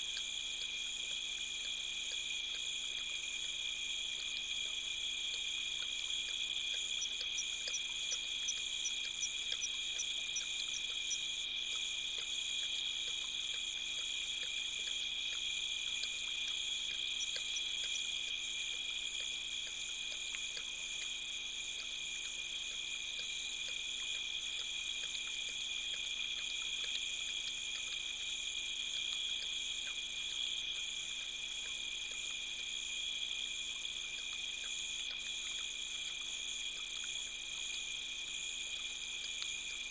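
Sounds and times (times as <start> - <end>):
faint ticks: 0.0 - 39.9
insects trilling: 0.0 - 39.9.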